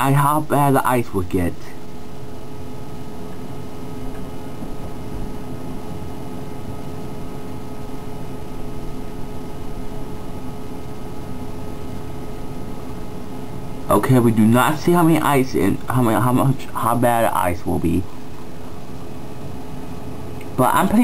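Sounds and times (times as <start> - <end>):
background hum and hiss: 0.0 - 21.0.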